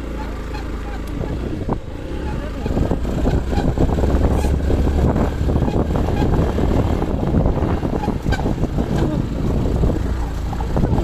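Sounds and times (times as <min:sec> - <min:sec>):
motorcycle engine running: 0:00.0 - 0:11.0
wind rumbling on microphone: 0:00.3 - 0:11.0.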